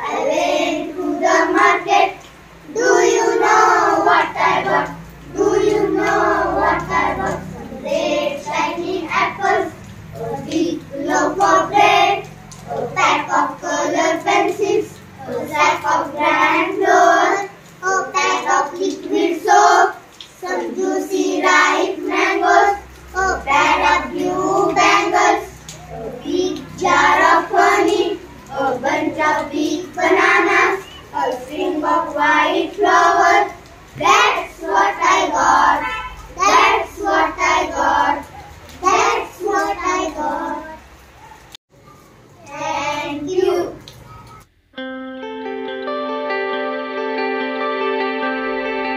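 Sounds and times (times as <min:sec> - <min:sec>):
children singing: 0:00.0 - 0:40.8.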